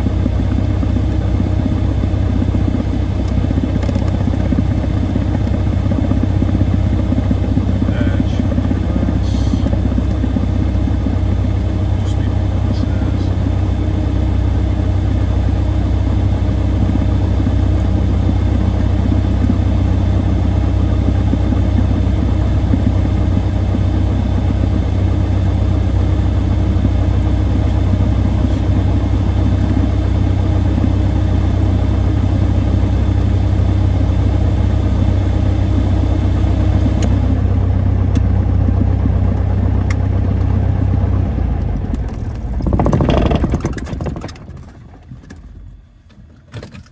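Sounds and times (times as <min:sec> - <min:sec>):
piston engine idling: 0:00.0 - 0:46.9.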